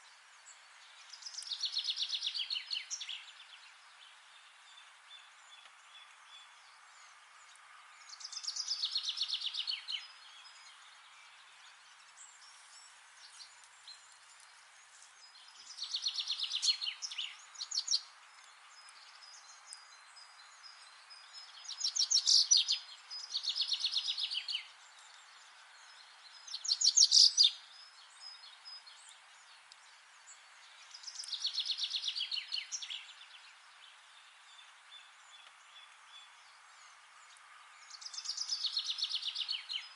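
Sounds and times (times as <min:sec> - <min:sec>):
faint forest ambience hiss: 0:00.0 - 0:39.9
songbird singing fast trills: 0:00.0 - 0:39.9.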